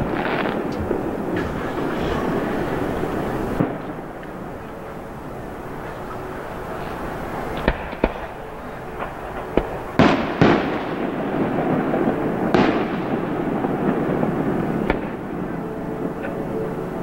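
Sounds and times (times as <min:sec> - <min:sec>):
fireworks bangs with echoing rumble: 0:00.0 - 0:04.8, 0:07.6 - 0:17.0.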